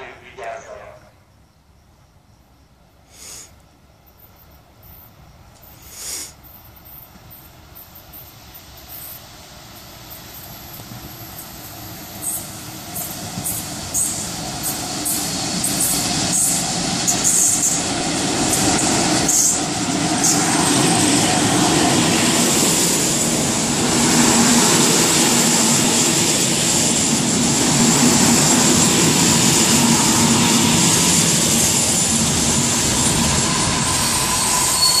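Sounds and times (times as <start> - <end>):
train rumbling past: 0.0 - 1.5, 3.9 - 35.0
coach wheels rushing on rails: 6.5 - 35.0.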